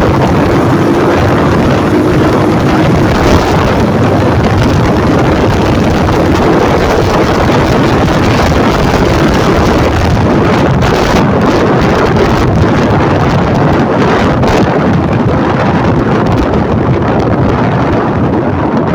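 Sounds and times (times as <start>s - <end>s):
motorcycle engine and exhaust: 0.0s - 18.9s
wind buffeting microphone: 0.0s - 18.9s.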